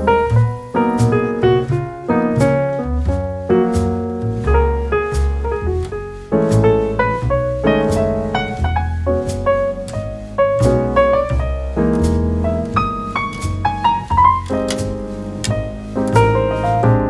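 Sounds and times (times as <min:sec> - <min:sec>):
piano music with deep bass: 0:00.0 - 0:17.0.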